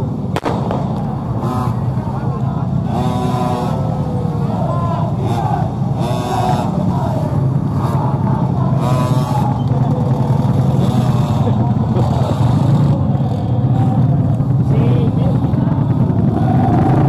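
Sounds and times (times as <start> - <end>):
crowd voices calling and chattering: 0.0 - 17.0
low continuous rumble: 0.0 - 17.0
motorcycle engines running: 0.0 - 17.0.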